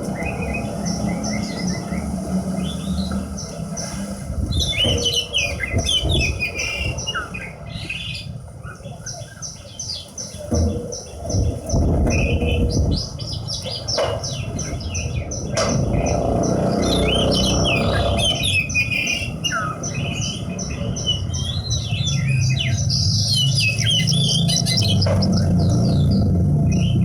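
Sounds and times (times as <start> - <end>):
bird singing chirps and trills: 0.0 - 27.0.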